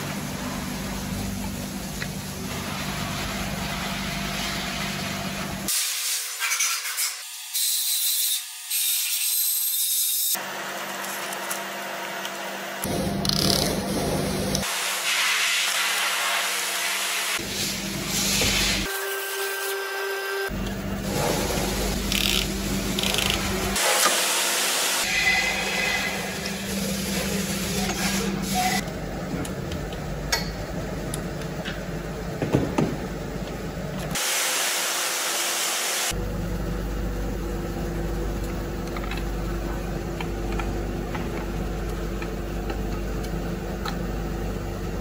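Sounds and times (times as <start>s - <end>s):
workshop hum: 0.0s - 45.0s.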